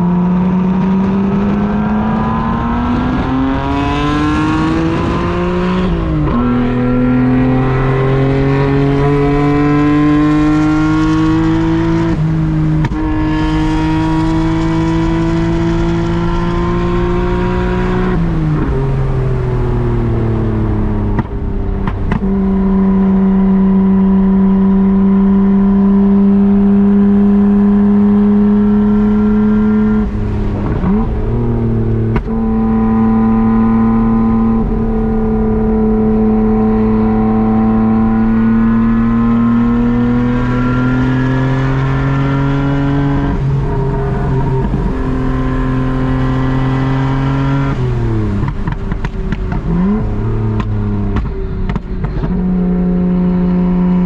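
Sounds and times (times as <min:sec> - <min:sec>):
car engine exhaust note: 0:00.0 - 0:54.0.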